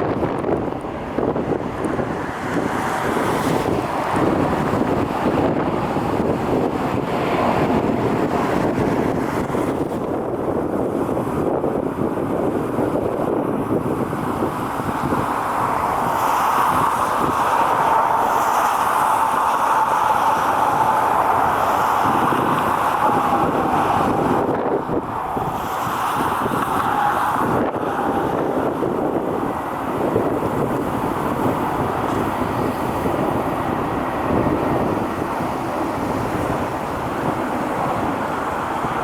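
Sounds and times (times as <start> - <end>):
jet engines running: 0.0 - 39.0
wind buffeting microphone: 0.0 - 39.0.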